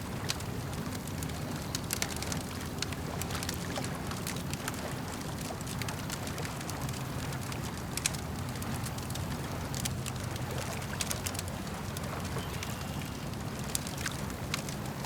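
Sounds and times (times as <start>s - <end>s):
lake water washing: 0.0s - 15.0s
campfire crackling and popping: 0.1s - 15.0s.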